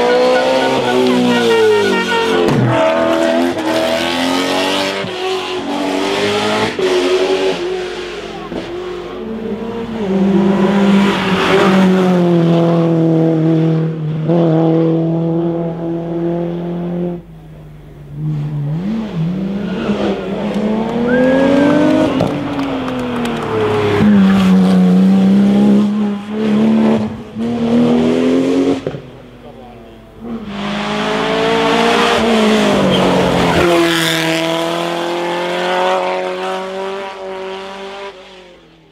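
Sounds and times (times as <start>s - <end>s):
race car engines at high revs: 0.0s - 38.9s.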